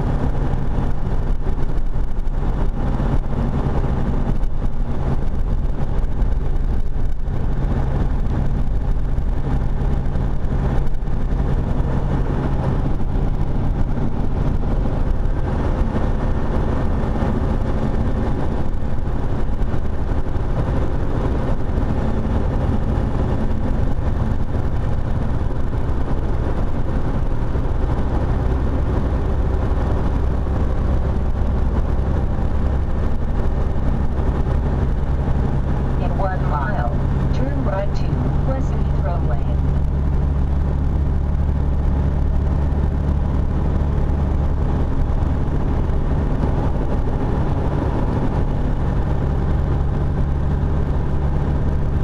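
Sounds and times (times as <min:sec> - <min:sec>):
truck engine drone inside cab: 0:00.0 - 0:52.0.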